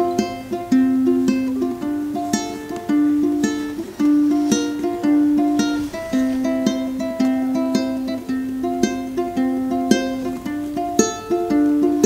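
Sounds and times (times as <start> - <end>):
ukulele fingerpicked: 0.0 - 12.0.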